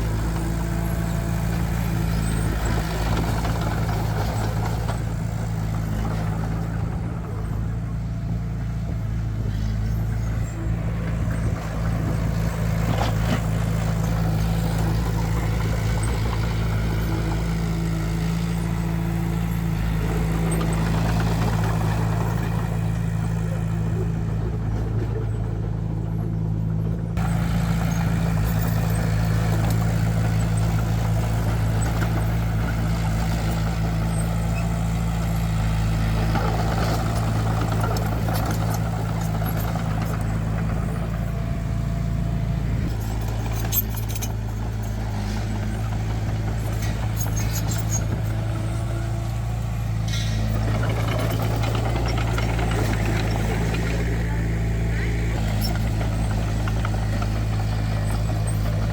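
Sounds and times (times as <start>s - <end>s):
diesel machinery running: 0.0s - 58.9s.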